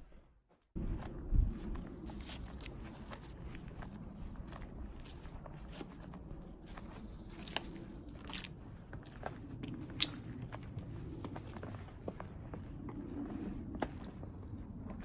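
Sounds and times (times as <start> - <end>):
footsteps crunching over debris: 0.0 - 15.0.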